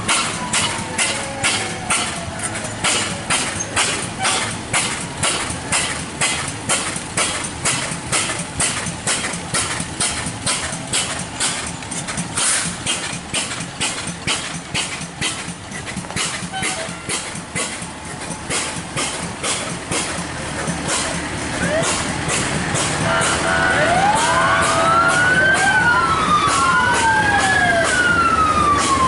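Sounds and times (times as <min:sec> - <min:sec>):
fire truck engines idling: 0:00.0 - 0:29.0.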